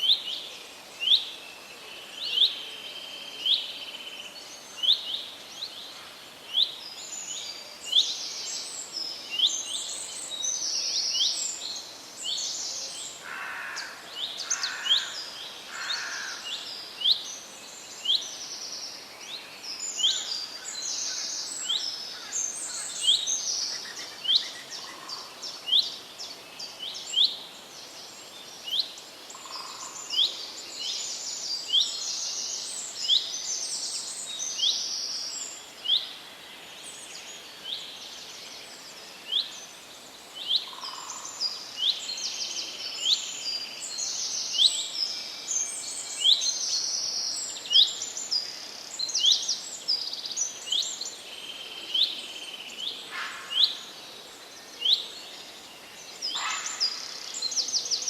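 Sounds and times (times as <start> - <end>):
faint steady hiss: 0.0 - 58.0
songbirds chirping and trilling: 0.0 - 58.0.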